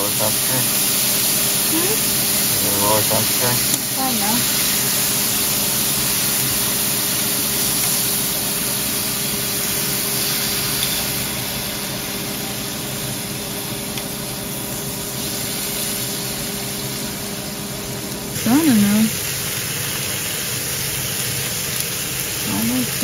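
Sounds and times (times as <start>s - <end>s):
fish sizzling on a griddle: 0.0s - 23.0s.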